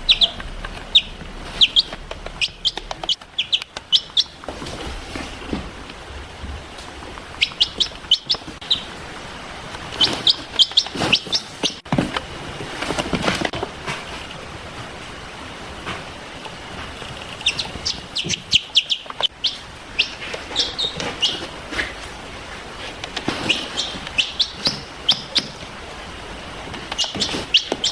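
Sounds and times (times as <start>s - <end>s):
baby chicks peeping: 0.0s - 14.3s, 15.8s - 27.9s.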